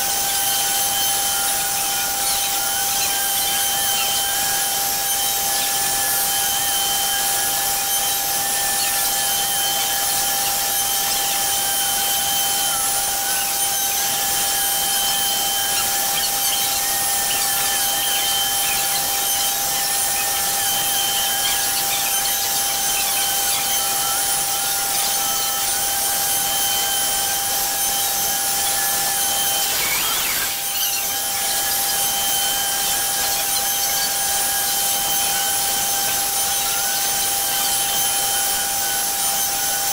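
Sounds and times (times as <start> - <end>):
router spindle whining: 0.0 - 39.9
router bit cutting wood: 0.1 - 39.9.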